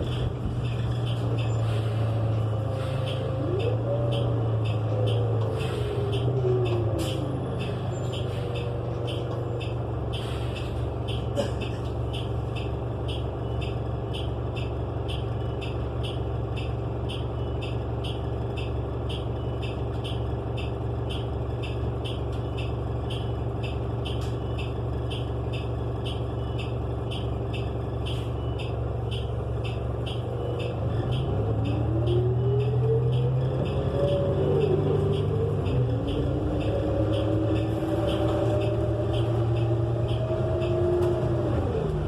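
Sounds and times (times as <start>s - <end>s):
bus engine droning: 0.0s - 42.0s
regular ticking: 0.0s - 42.0s.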